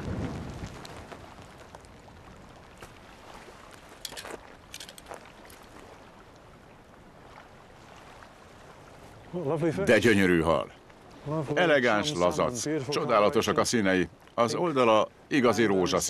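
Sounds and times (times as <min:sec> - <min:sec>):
river water lapping: 0:00.0 - 0:16.0
water splashes: 0:00.0 - 0:16.0.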